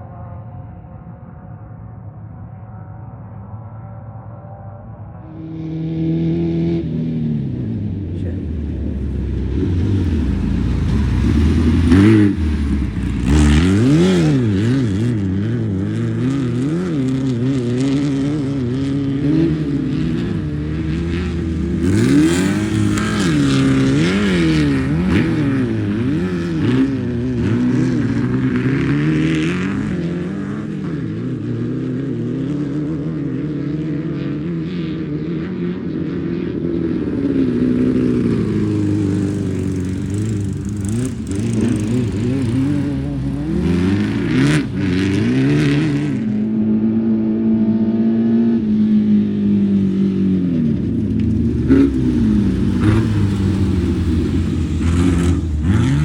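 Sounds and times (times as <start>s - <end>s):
race car engines revving: 5.0s - 56.0s.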